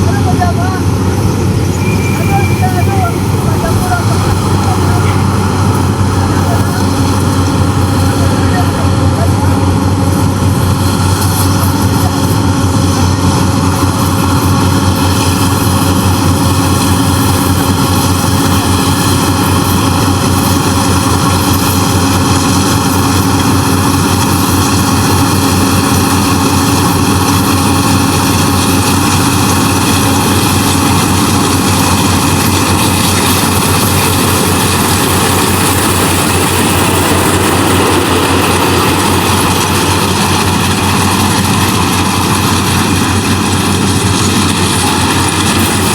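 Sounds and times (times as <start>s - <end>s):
combine harvester diesel engine: 0.0s - 45.9s.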